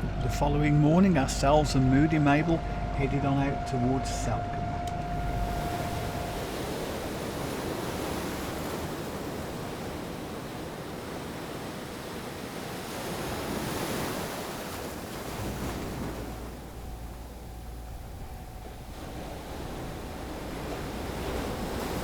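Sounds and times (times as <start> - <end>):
wind buffeting microphone: 0.0 - 11.8, 12.8 - 22.0
sea water rushing and splashing: 0.0 - 22.0.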